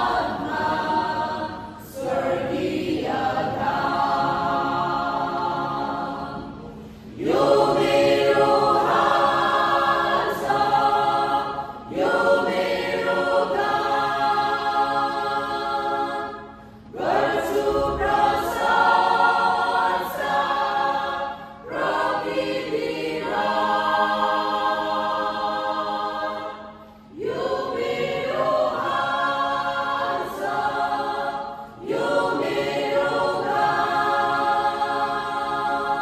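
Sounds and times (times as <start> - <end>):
choir singing a gospel song: 0.0 - 36.0.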